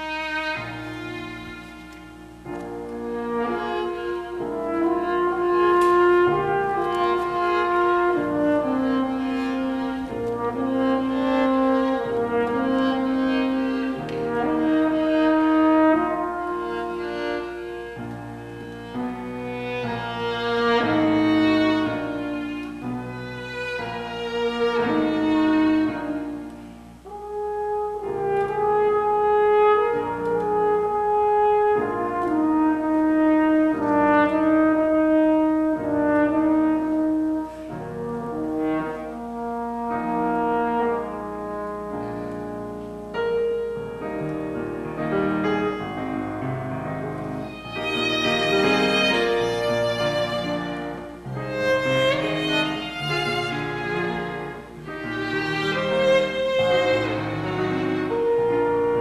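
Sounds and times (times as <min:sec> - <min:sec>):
french horn held notes: 0:00.0 - 0:18.0, 0:19.6 - 0:59.0
violin and piano playing: 0:00.0 - 0:59.0.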